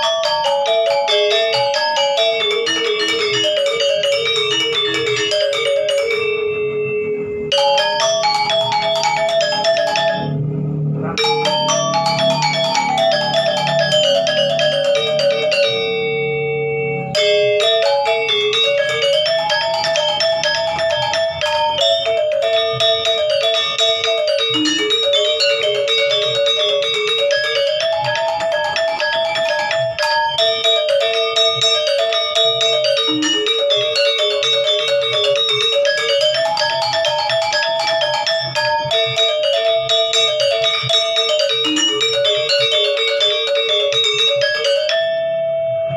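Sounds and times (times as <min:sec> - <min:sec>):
gamelan music: 0:00.0 - 0:45.9.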